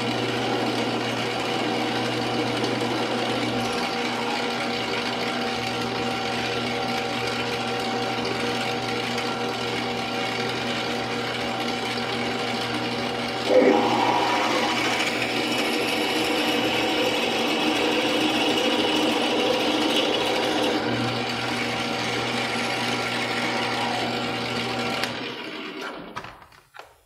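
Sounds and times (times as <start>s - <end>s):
metal lathe running: 0.0s - 26.1s
lathe winding down: 0.0s - 26.2s.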